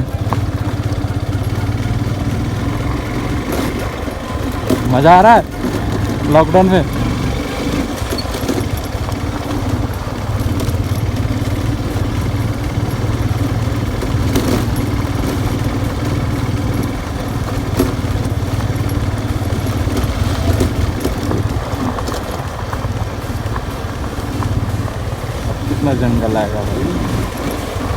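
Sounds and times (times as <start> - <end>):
motorcycle engine running: 0.0 - 27.9
wind and road noise: 0.0 - 27.9.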